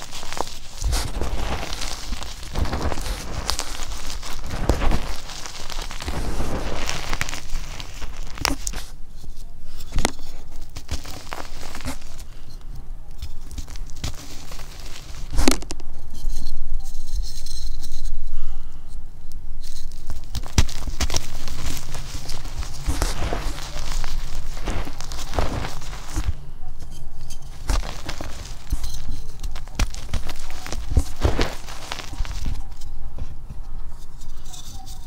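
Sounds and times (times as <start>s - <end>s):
chalk chunks cracking: 0.0s - 18.1s, 19.6s - 35.0s
chalk crunching: 0.0s - 18.1s, 19.6s - 35.0s.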